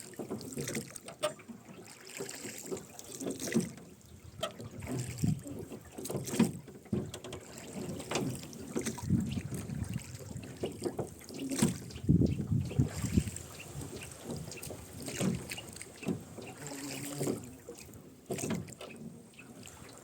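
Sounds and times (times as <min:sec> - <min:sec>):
oars splashing in water: 0:00.0 - 0:20.0
oarlocks creaking and knocking: 0:00.1 - 0:17.5, 0:18.3 - 0:19.5.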